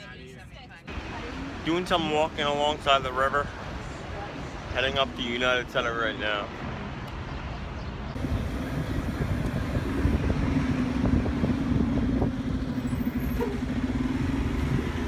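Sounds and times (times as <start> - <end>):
dense traffic rumble: 0.0 - 15.0
motor vehicle humming: 0.0 - 15.0.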